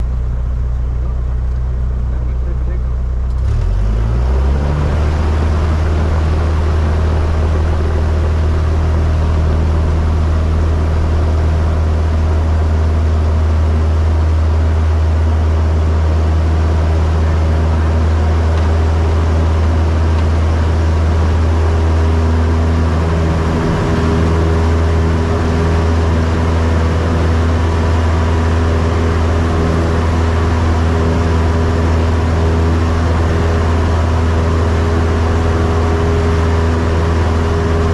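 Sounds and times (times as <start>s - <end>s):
propeller plane engine drone: 0.0s - 37.9s.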